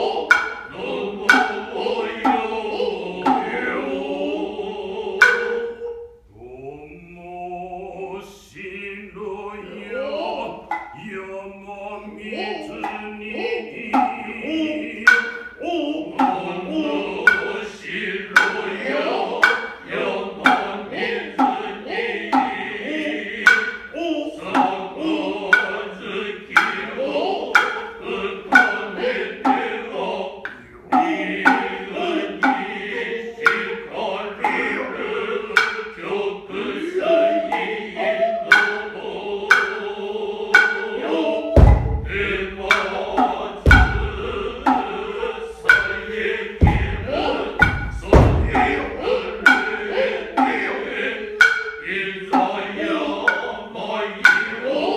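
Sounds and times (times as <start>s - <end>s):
sharp hand-drum strokes: 0.0s - 6.1s, 12.2s - 30.0s, 30.8s - 54.9s
chorus chanting in unison: 0.0s - 54.9s.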